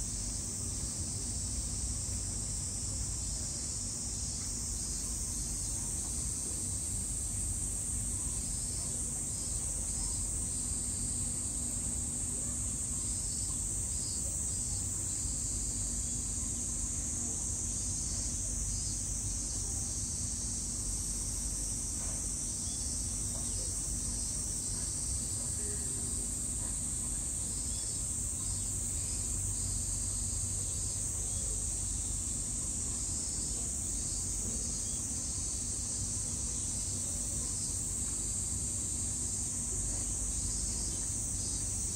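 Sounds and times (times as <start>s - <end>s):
cicadas calling: 0.0s - 41.9s
pulsing insect call: 0.0s - 41.9s.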